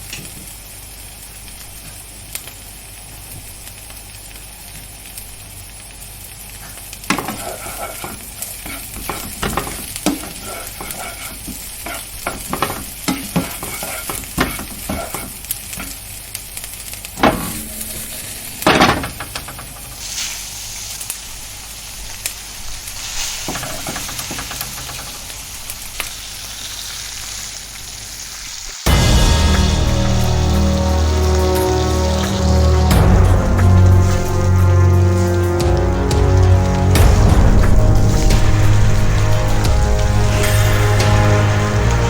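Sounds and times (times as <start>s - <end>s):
fish sizzling in a pan: 0.0s - 42.0s.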